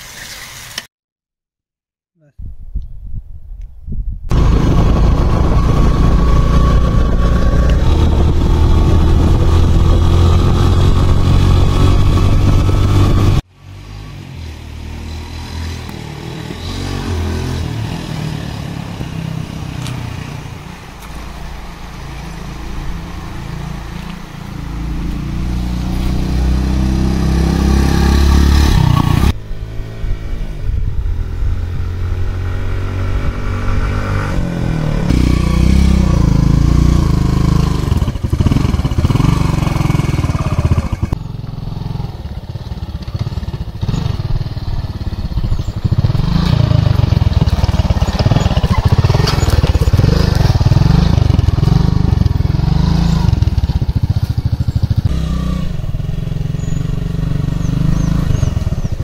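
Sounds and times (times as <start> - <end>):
motorcycle engine revving: 4.3 - 59.0.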